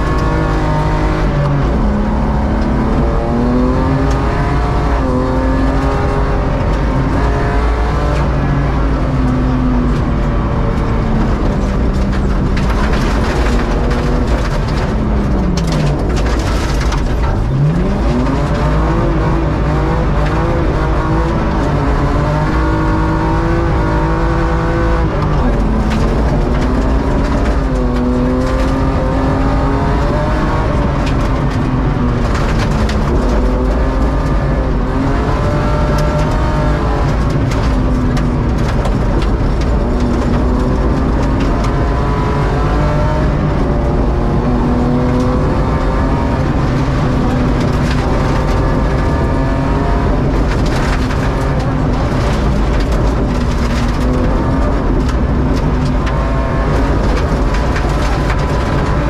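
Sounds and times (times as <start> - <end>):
car engine at full throttle: 0.0 - 59.0
gravel clicks and knocks: 0.0 - 59.0.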